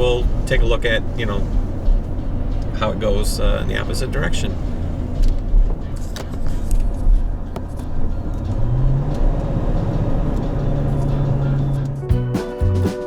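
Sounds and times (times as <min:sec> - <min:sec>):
road noise rumble: 0:00.0 - 0:12.2
engine hum: 0:00.0 - 0:12.9.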